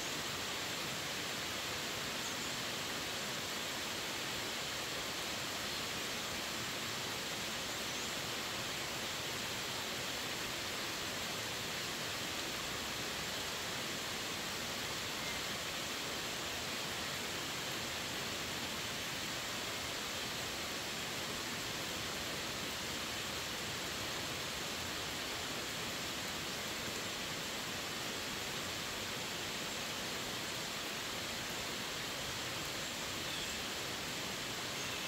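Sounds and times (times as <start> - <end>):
heavy rain on leaves and pavement: 0.0 - 35.0.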